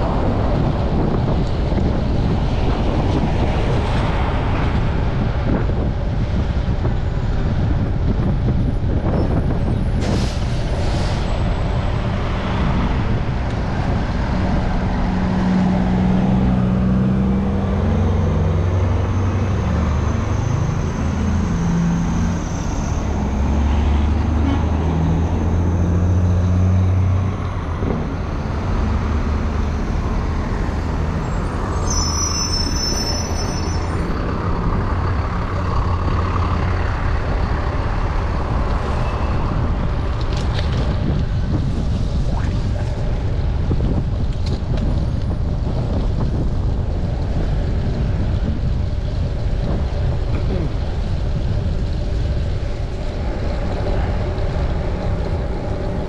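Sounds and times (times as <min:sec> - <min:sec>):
city street traffic: 0:00.0 - 0:56.0
low vehicle engine drone: 0:00.0 - 0:56.0
wind and road noise: 0:00.0 - 0:56.0.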